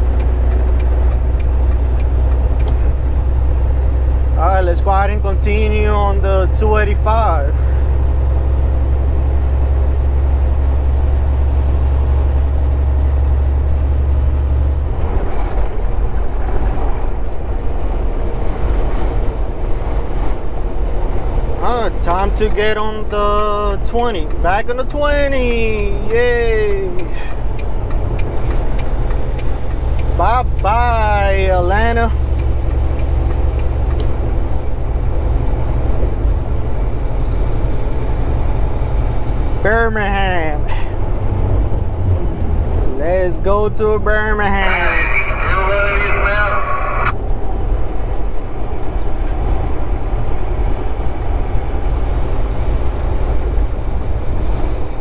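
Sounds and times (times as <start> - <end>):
road noise: 0.0 - 55.0
truck engine droning: 0.0 - 55.0.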